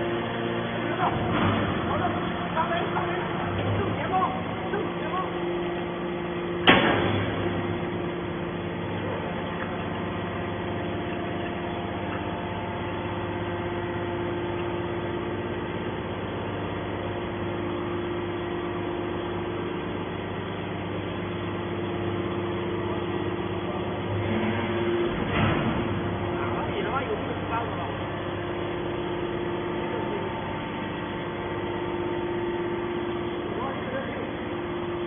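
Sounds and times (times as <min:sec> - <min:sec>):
can baler motor humming: 0:00.0 - 0:35.0.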